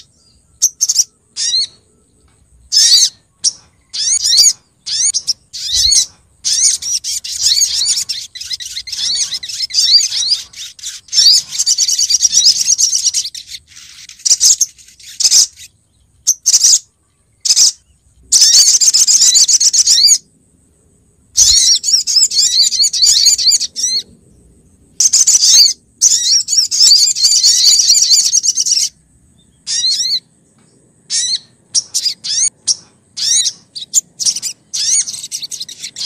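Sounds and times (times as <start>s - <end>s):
bird twittering chirps: 0.0s - 20.3s, 21.4s - 36.0s.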